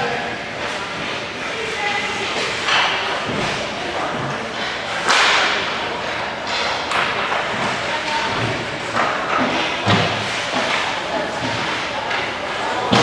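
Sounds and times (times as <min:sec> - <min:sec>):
hockey sticks slapping pucks: 0:02.2 - 0:13.0.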